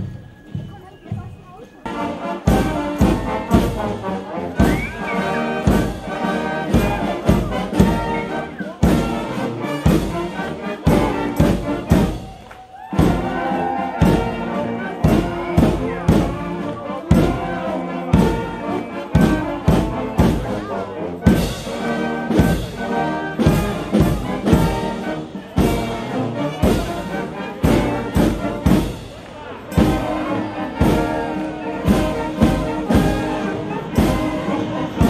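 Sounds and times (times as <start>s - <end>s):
brass band playing a march: 0.0s - 35.0s.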